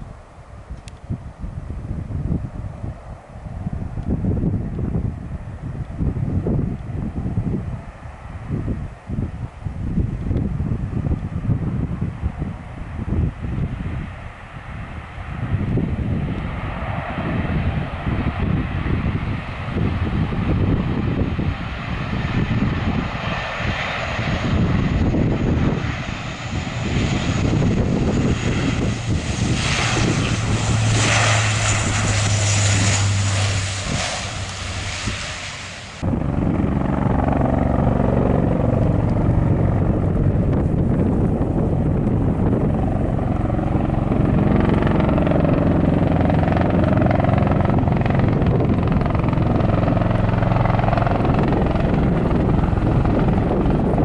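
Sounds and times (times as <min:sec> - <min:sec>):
propeller aircraft landing: 0:00.0 - 0:54.0
tiltrotor aircraft drone: 0:00.0 - 0:54.0.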